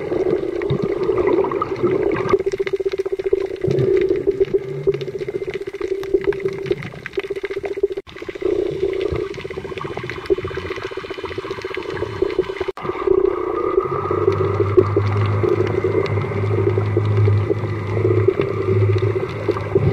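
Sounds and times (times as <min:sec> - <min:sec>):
water sloshing underwater: 0:00.0 - 0:19.9
small crackling clicks: 0:00.2 - 0:12.8, 0:14.2 - 0:19.9.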